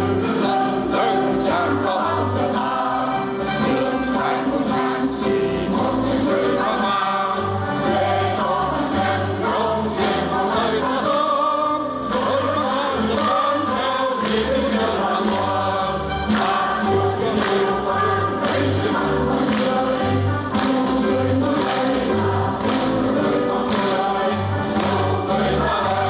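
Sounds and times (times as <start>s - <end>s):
choir singing: 0.0s - 26.0s.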